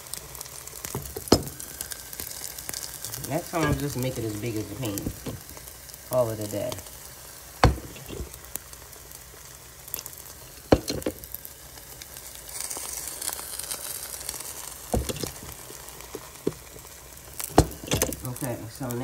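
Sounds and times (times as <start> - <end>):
batter sizzling in a pan: 0.0 - 19.0.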